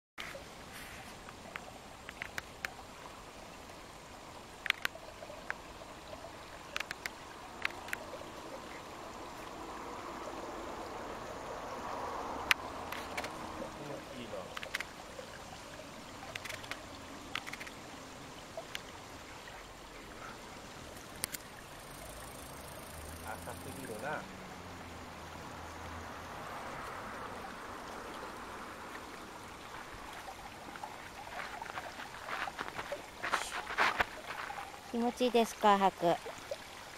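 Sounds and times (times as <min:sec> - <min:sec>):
stream trickling: 0:00.2 - 0:36.9.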